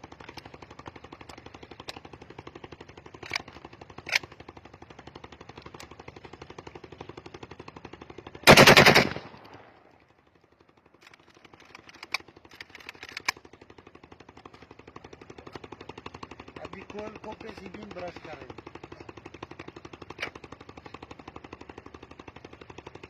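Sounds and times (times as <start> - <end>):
brushing machine rattling on metal: 0.0 - 9.0, 10.9 - 23.0.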